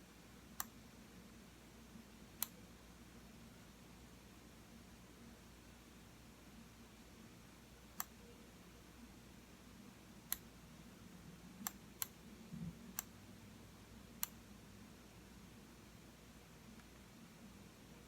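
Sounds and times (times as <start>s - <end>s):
faint low room hum: 0.0s - 18.0s.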